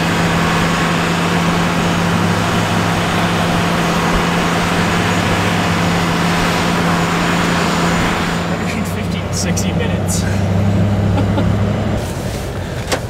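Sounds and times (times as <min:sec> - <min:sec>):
truck engines low drone: 0:00.0 - 0:13.0.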